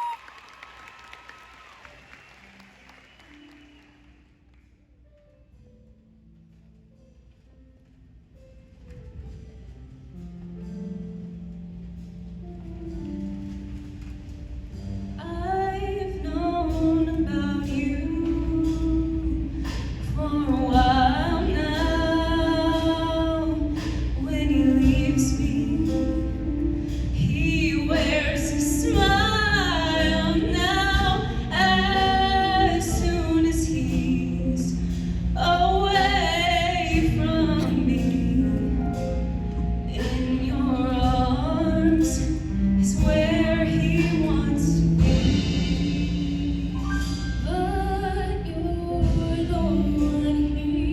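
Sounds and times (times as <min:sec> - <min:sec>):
instrumental accompaniment: 0:05.2 - 0:50.9.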